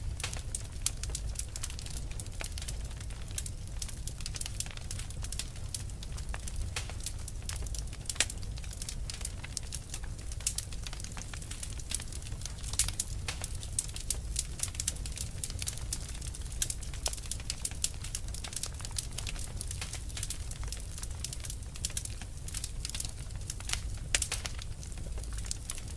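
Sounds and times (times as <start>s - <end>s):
fire crackling: 0.0s - 25.9s.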